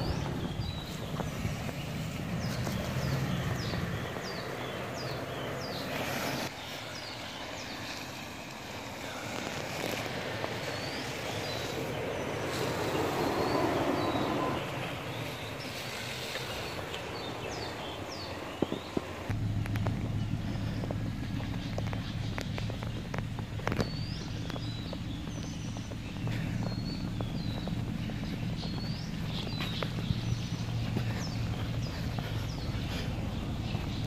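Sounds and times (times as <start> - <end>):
car engine running: 0.0 - 6.4, 8.8 - 34.0.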